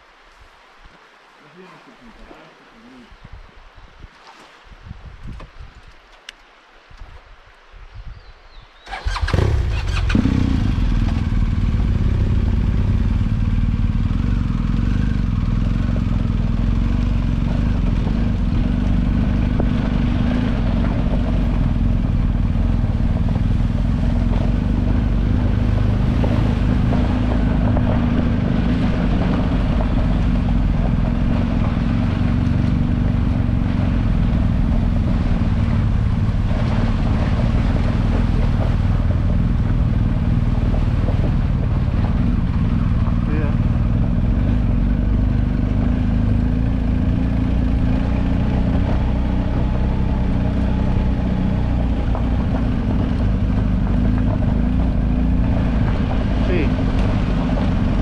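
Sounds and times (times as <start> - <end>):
motorcycle engine running: 9.0 - 58.0.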